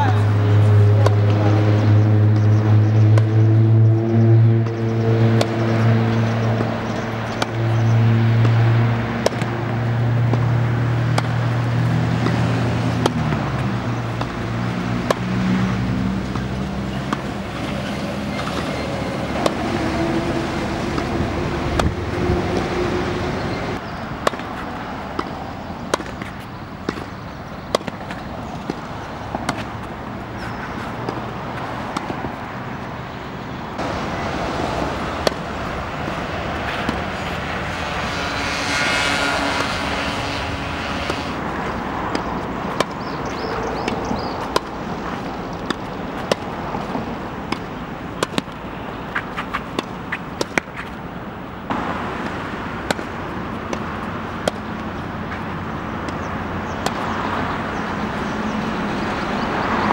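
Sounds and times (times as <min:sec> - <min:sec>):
tennis balls bouncing: 0:00.0 - 0:38.6, 0:39.4 - 0:59.9
tennis balls struck by racket: 0:00.0 - 0:59.0.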